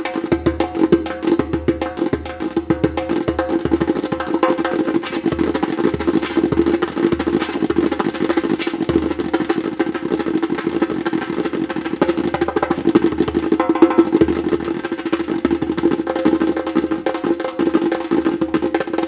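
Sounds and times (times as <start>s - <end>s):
djembe played with hands: 0.0s - 19.0s.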